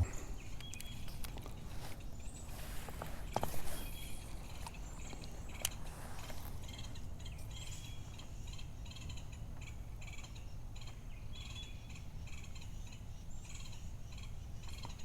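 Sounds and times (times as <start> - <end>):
animals chirping rhythmically: 0.0 - 2.6, 3.7 - 15.0.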